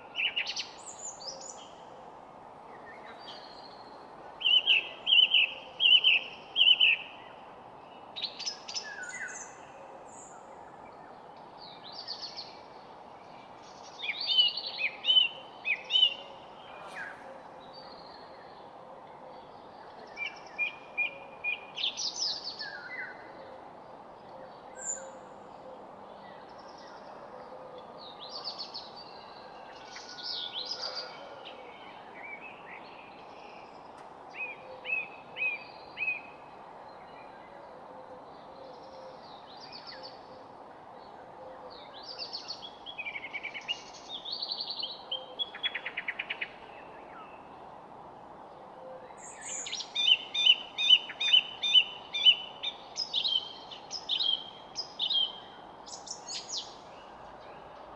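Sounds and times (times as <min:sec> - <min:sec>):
low outdoor background rush: 0:00.0 - 0:57.9
wild birds chirping and singing: 0:00.0 - 0:57.9.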